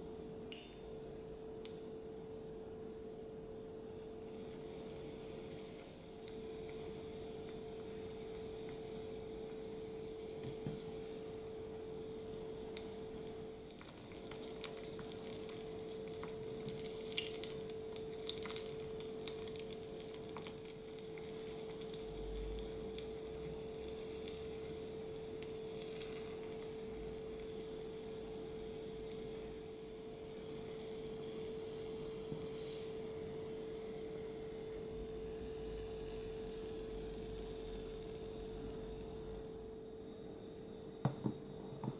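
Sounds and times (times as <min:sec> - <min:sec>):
steady low hum: 0:00.0 - 0:41.9
cutlet deep-frying in oil: 0:04.0 - 0:39.7.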